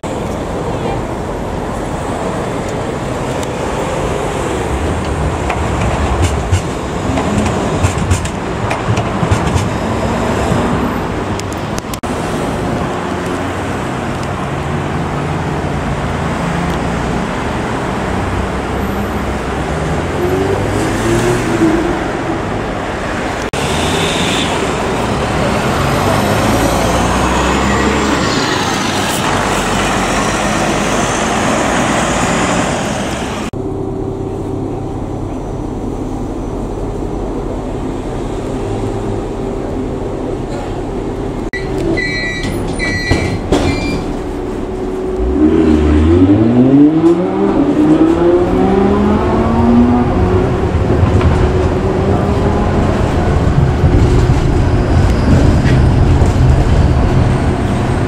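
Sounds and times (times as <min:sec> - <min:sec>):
bus moving along: 0:00.0 - 0:58.0
hum inside a tram: 0:00.0 - 0:58.0
tram running past: 0:00.0 - 0:58.0.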